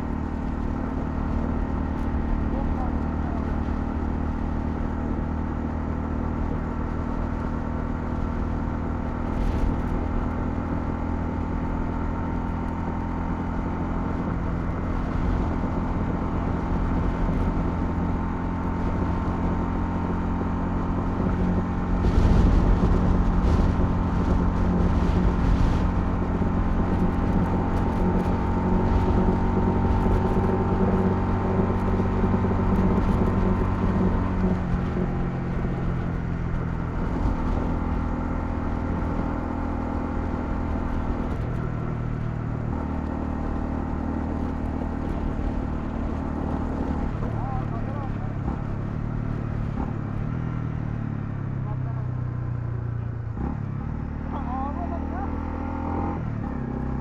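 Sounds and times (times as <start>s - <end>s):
motorcycle engine running: 0.0s - 57.0s
road and wind rumble: 0.0s - 57.0s.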